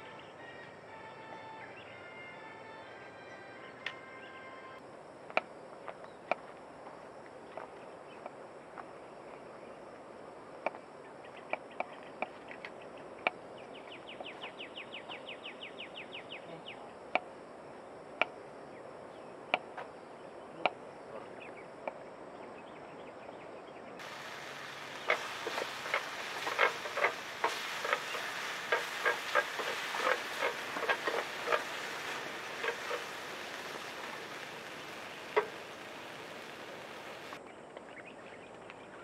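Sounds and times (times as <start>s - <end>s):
steady outdoor hiss: 0.0s - 39.0s.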